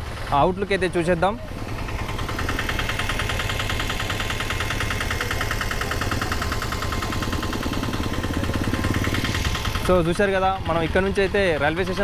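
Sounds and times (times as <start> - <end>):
engine idling with clatter: 0.0 - 12.0.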